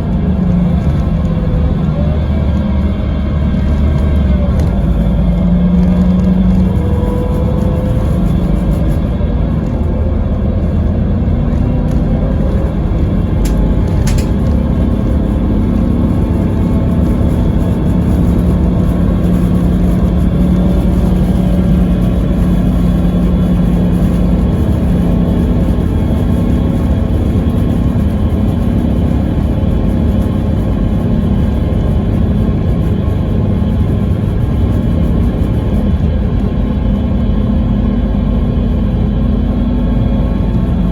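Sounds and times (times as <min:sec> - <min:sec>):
coach diesel engine running: 0:00.0 - 0:40.9.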